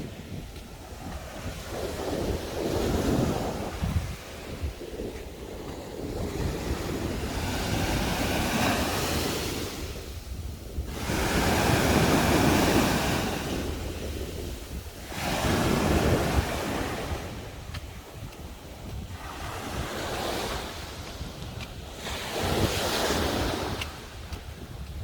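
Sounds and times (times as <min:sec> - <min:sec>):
sea waves breaking on a beach: 0:00.0 - 0:25.0
wind buffeting microphone: 0:00.0 - 0:25.0.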